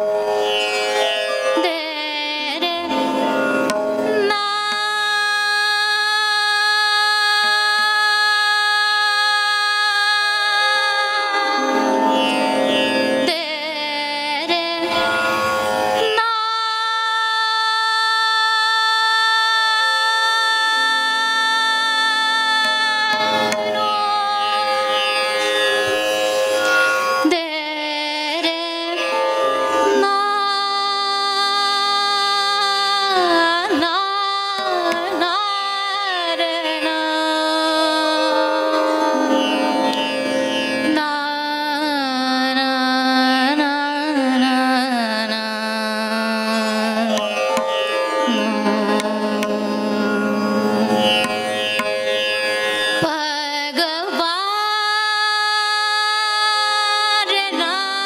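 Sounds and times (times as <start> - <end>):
woman singing classical vocal: 1.5 - 12.2, 13.1 - 15.4, 16.0 - 25.5, 27.2 - 40.2, 40.8 - 51.4, 53.0 - 58.0.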